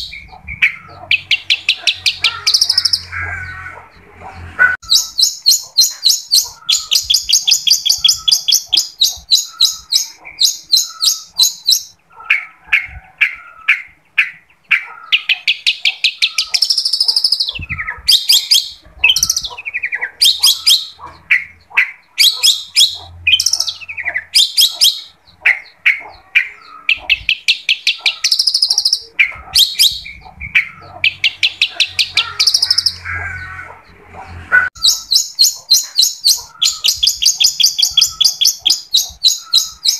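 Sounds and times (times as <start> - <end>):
bird singing scratchy notes: 0.0 - 39.9.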